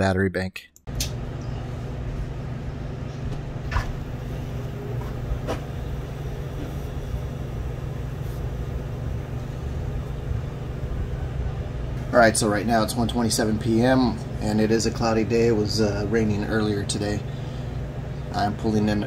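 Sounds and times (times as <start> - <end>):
power inverter humming: 0.9 - 19.0.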